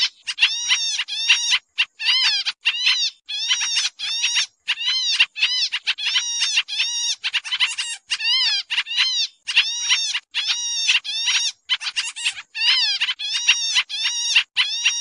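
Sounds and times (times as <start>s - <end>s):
bird harsh chattering calls: 0.0s - 15.0s.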